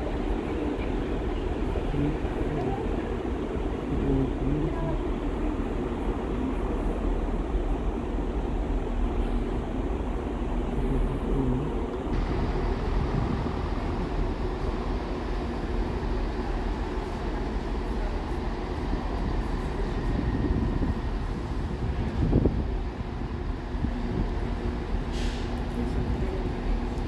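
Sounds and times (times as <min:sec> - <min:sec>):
diesel train rumbling past: 0:00.0 - 0:27.0.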